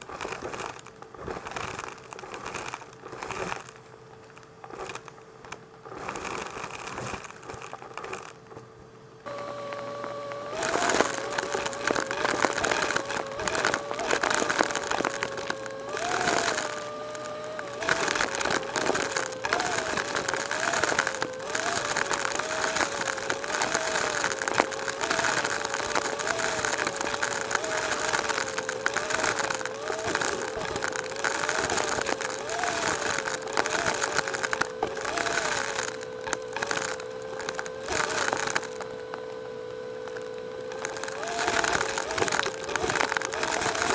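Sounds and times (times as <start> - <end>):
crinkly handling noise: 0.0 - 43.9
small clicks and rattles: 0.0 - 43.9
vacuum cleaner motor whine: 5.8 - 43.9.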